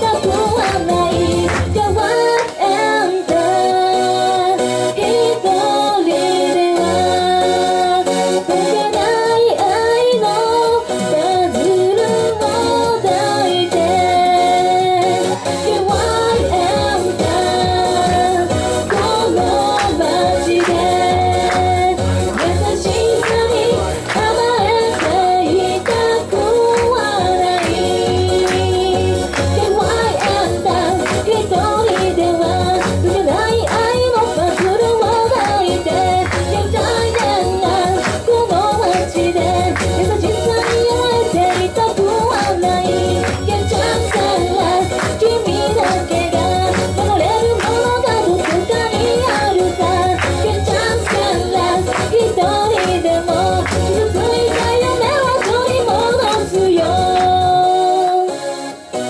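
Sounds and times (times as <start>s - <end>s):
woman singing into microphone: 0.0s - 58.4s
backing track with steady beat: 0.0s - 59.0s
instrumental accompaniment: 10.5s - 59.0s.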